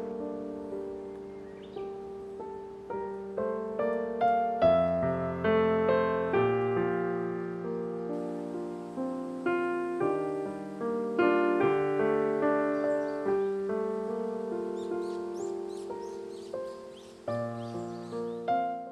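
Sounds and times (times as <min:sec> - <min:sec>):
piano notes and chords: 0:00.0 - 0:18.9.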